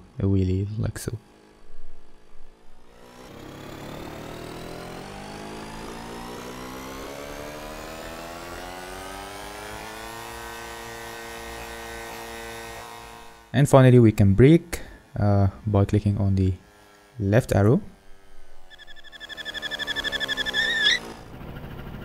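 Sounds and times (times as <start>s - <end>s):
scooter engine accelerating: 1.2s - 13.6s, 14.7s - 22.0s.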